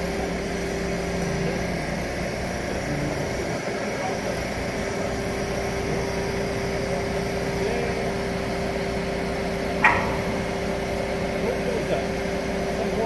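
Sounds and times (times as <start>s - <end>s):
crane engine humming: 0.0s - 13.0s.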